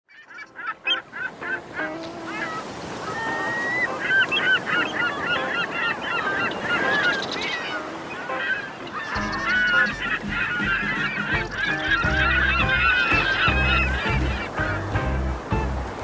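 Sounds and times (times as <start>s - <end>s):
gulls calling: 0.1s - 16.0s.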